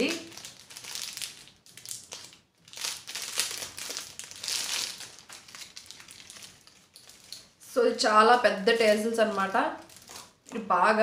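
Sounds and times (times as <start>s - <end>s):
plastic packet crinkling: 0.0s - 7.7s, 8.3s - 10.7s.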